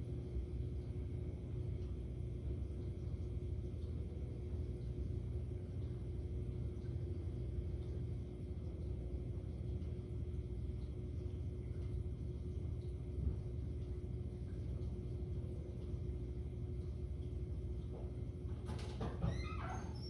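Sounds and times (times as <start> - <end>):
constant hum: 0.0 - 20.0.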